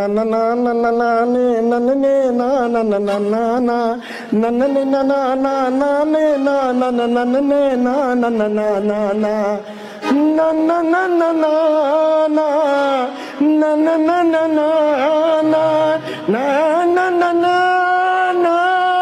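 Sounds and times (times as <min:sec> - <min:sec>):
man singing long notes: 0:00.0 - 0:19.0.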